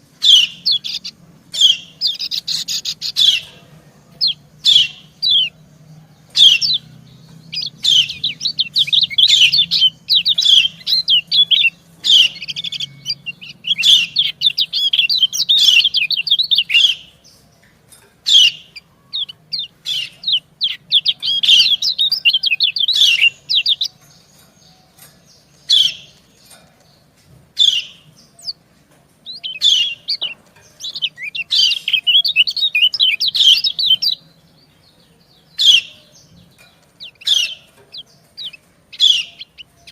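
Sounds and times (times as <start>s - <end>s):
birds chattering calls: 0.0s - 39.9s.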